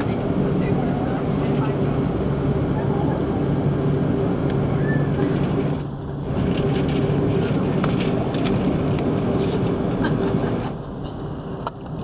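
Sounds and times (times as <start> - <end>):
aircraft engines idling hum: 0.0 - 12.0.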